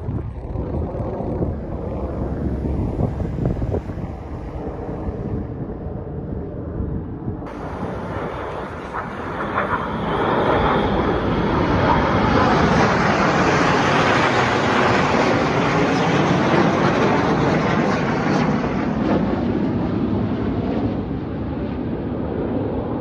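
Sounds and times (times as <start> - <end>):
jet aircraft flying over: 0.0 - 23.0.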